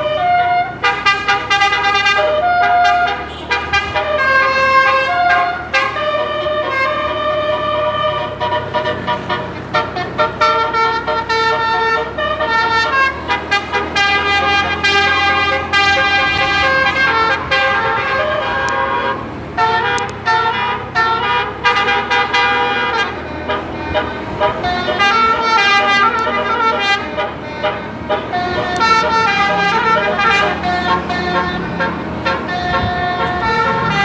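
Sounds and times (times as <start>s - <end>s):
musical air horn playing a melody: 0.0s - 34.0s.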